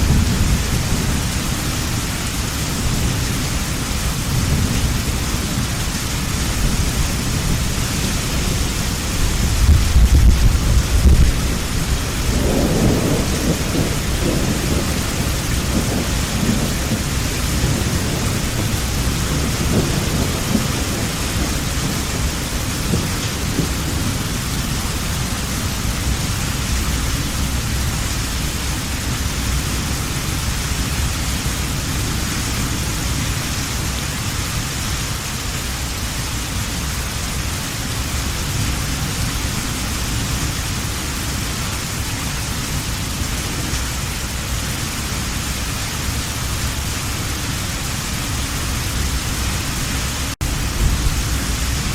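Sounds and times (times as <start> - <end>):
rolling thunder rumble: 0.0 - 34.2, 37.7 - 51.9
heavy rain falling: 0.0 - 51.9.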